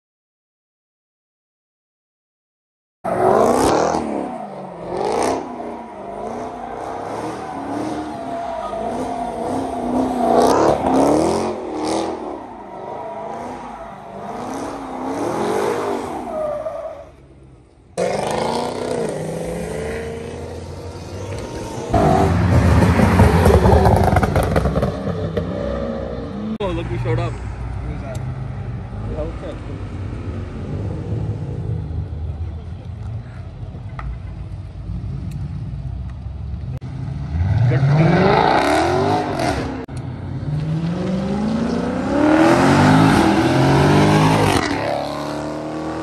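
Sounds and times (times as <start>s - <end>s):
car engine revving: 3.1s - 16.4s, 17.2s - 32.7s, 34.7s - 46.0s.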